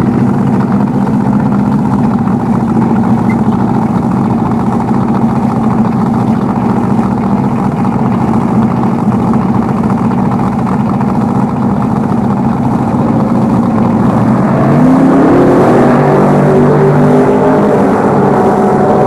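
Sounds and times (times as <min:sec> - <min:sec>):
drag car engine idling and revving: 0:00.0 - 0:19.0.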